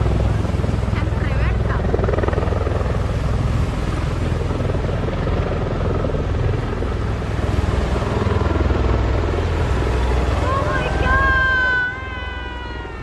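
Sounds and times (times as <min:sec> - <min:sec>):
aircraft rotors thrumming: 0:00.0 - 0:13.0.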